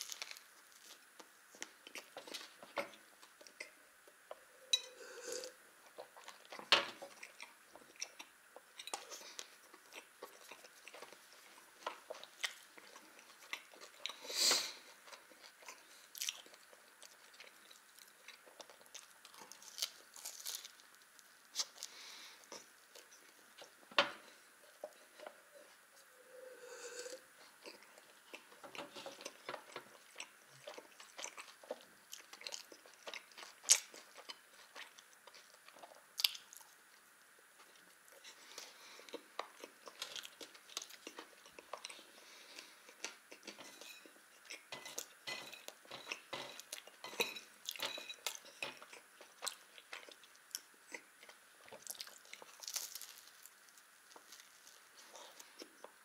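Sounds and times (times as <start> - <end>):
chewing soft pastry: 0.0 - 56.0.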